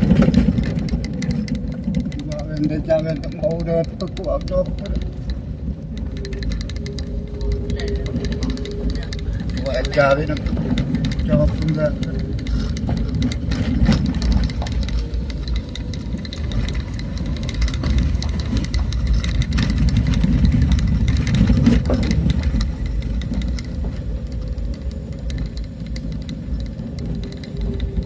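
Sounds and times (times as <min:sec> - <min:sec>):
engine and road rumble: 0:00.0 - 0:28.0
vehicle knocks and rattles: 0:00.0 - 0:28.0.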